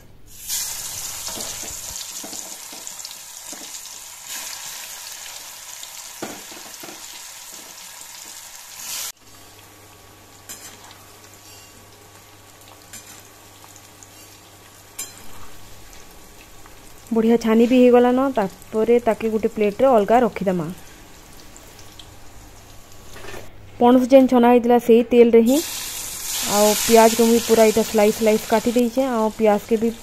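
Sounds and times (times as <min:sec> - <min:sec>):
food sizzling in hot oil: 0:00.3 - 0:23.2, 0:25.5 - 0:30.0.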